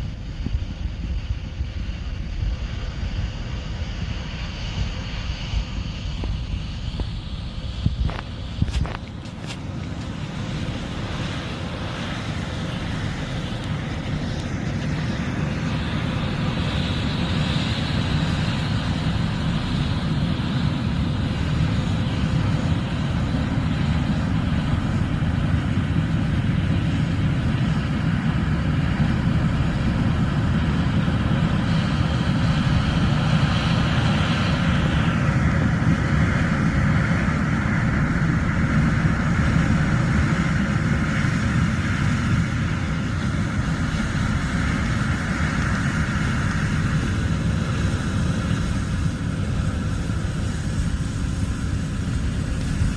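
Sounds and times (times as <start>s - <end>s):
combine harvester rumble: 0.0s - 52.9s.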